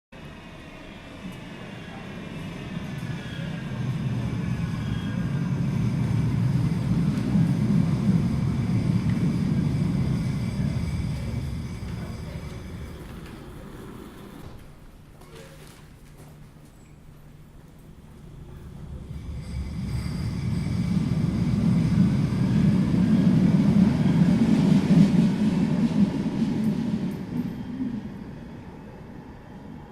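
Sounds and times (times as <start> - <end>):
subway train rumbling: 0.1 - 29.9.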